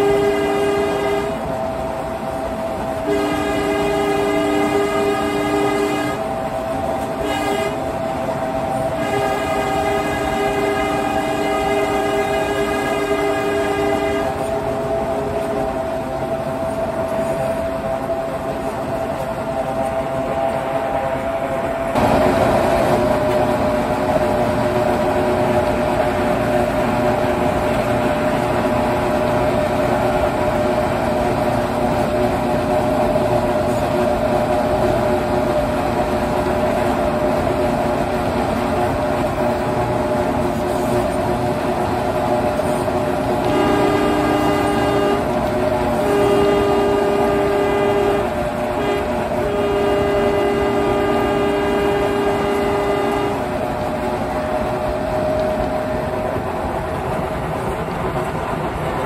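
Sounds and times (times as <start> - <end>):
locomotive horn blasts: 0.0 - 1.7, 2.8 - 57.8
diesel locomotive engine drone: 0.0 - 59.0.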